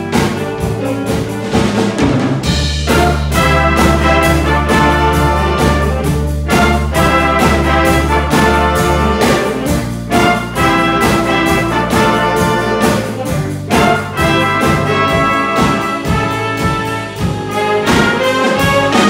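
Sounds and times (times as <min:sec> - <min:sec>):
big band playing swing: 0:00.0 - 0:19.0.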